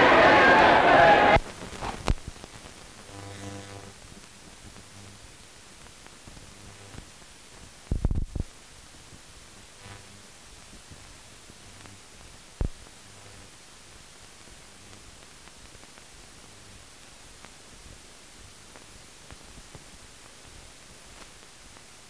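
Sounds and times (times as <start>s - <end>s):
steady hiss: 0.0s - 22.0s
faint ticks: 1.6s - 5.2s, 5.8s - 13.6s, 14.4s - 18.0s, 18.7s - 21.9s.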